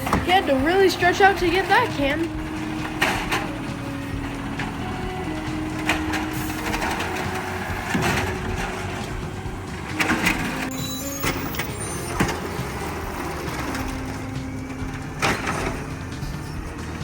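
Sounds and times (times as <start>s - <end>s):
garbage truck engine running: 0.0s - 17.0s
metal clanks and knocks: 0.0s - 17.0s.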